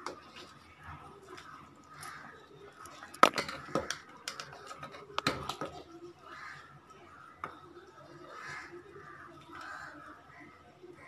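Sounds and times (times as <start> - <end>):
ladle stirring curry: 0.0 - 11.0.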